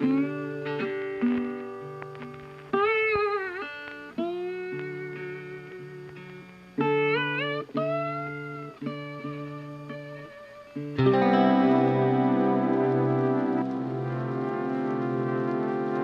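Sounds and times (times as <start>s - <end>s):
guitar melody: 0.0s - 16.0s.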